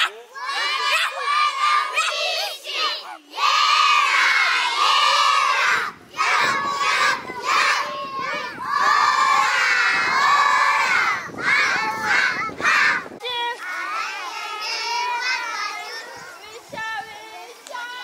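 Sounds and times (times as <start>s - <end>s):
children shouting together: 0.0s - 16.7s.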